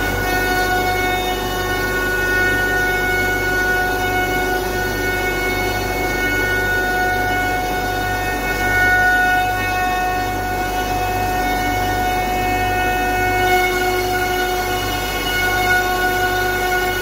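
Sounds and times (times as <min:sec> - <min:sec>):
cnc router whine: 0:00.0 - 0:17.0
low machine hum: 0:00.0 - 0:17.0.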